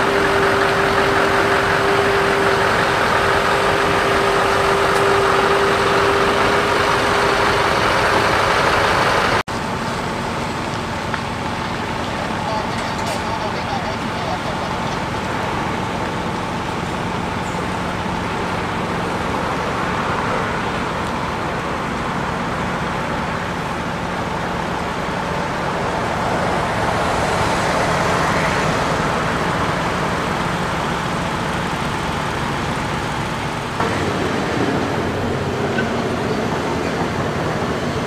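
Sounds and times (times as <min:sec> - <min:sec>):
diesel truck engine humming: 0:00.0 - 0:38.0
road traffic noise: 0:00.0 - 0:38.0.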